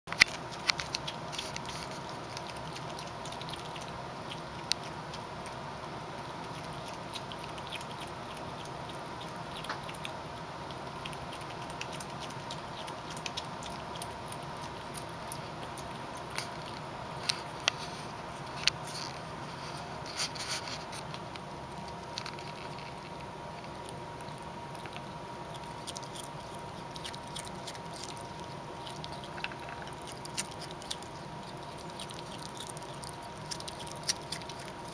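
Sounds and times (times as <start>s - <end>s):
faint steady hum: 0.1s - 34.9s
small animal crunching vegetables: 0.1s - 34.9s.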